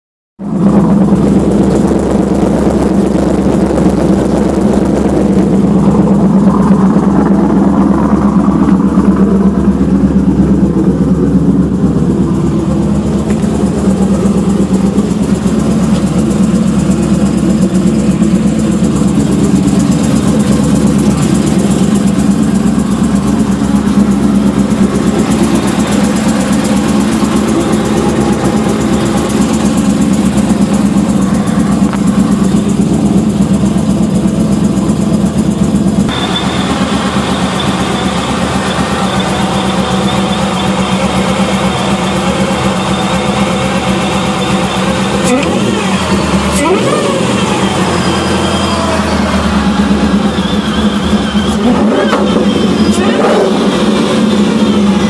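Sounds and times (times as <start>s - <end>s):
engine idling: 0.4s - 55.0s.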